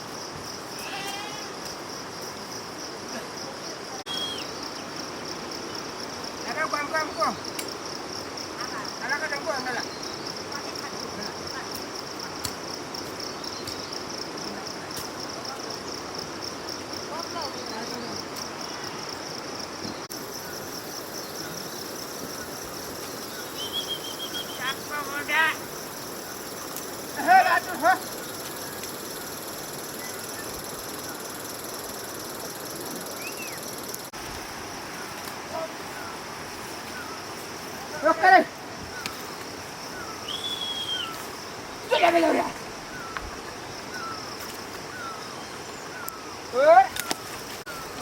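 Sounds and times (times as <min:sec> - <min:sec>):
insects buzzing: 0:00.0 - 0:48.0
outdoor background noise: 0:00.0 - 0:48.0.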